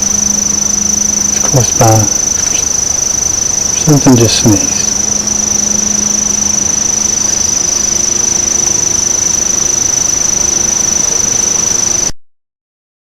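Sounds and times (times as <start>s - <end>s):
faint low hum: 0.0s - 11.7s
high-pitched insect trill: 0.0s - 12.1s.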